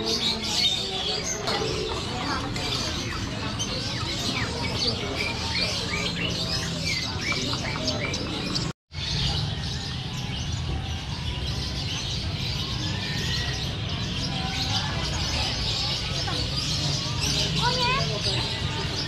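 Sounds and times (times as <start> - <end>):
small birds chirping and whistling: 0.0 - 19.0.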